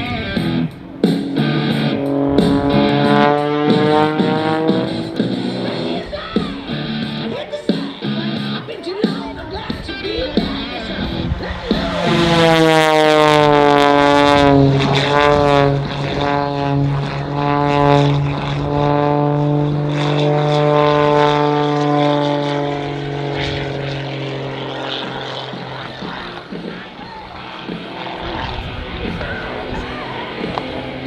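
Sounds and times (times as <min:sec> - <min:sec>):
propeller plane engine drone: 0:00.0 - 0:31.0.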